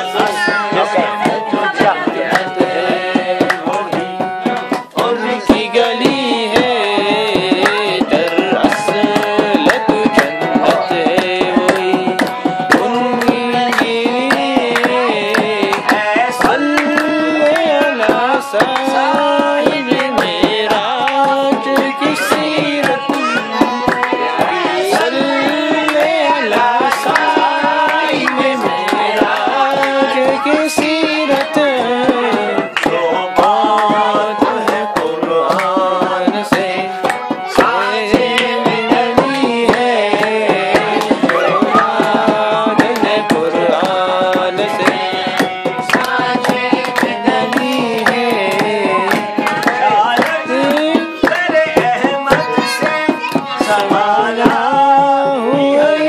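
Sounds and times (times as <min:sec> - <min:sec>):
hand drum rhythm: 0:00.0 - 0:56.0
harmonium melody: 0:00.0 - 0:56.0.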